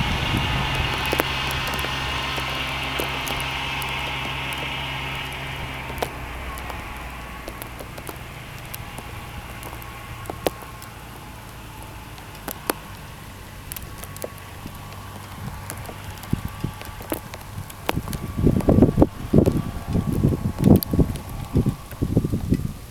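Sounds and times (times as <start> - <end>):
diesel engine running: 0.0 - 22.9
ice ticking and cracking: 0.0 - 22.9.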